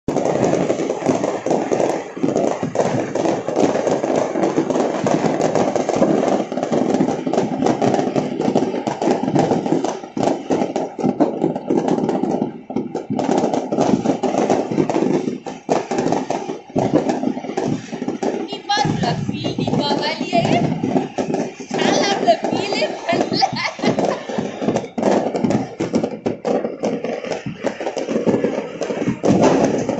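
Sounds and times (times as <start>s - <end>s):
fireworks crackling and banging: 0.0s - 29.9s.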